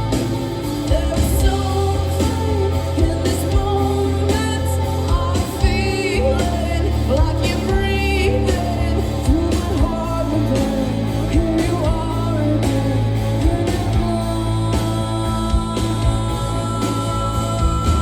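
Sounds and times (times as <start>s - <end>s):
live rock band playing: 0.0s - 18.0s
person singing: 0.0s - 18.0s.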